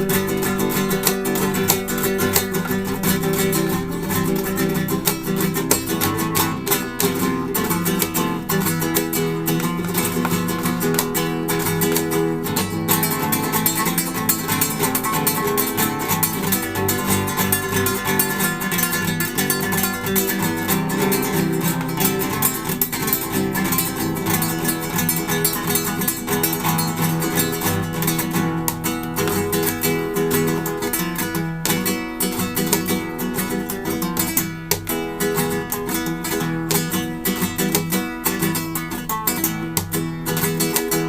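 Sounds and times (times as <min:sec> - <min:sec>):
acoustic guitar playing: 0:00.0 - 0:41.0.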